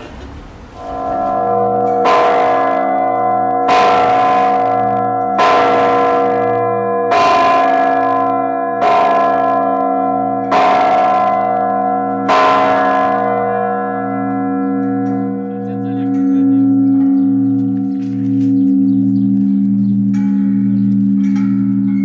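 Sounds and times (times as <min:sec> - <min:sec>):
church bell ringing: 0:00.8 - 0:22.0.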